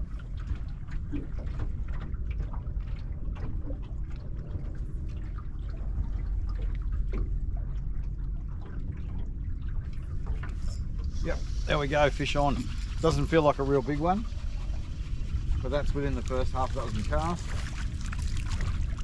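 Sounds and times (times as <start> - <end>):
low wind rumble: 0.0 - 19.0
small splashes: 0.0 - 19.0
water lapping against boat hull: 0.0 - 19.0.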